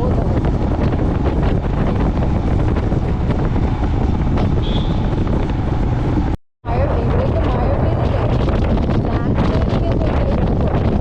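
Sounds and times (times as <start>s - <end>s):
motorcycle engine: 0.0s - 8.9s
road noise: 0.0s - 11.0s
wind buffeting microphone: 0.0s - 11.0s.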